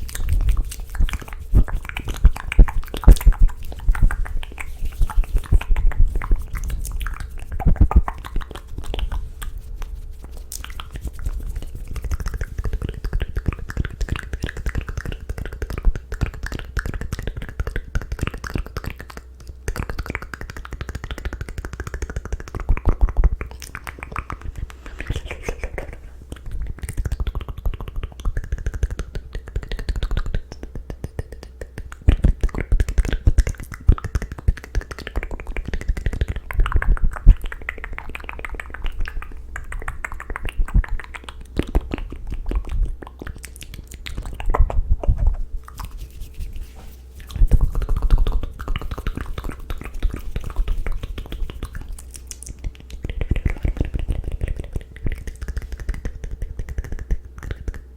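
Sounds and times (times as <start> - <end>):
wet mouth clicks and smacks: 0.0 - 57.9.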